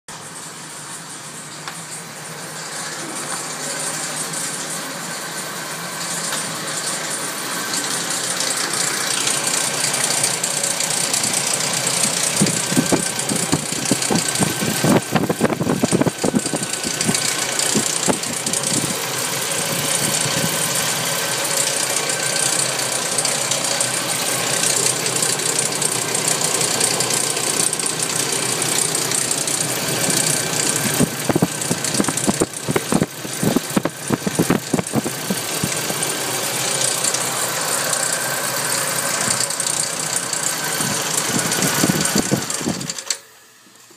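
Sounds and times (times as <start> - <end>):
car engine running: 0.1 - 43.9
rattle of sharp clicks: 6.0 - 43.3.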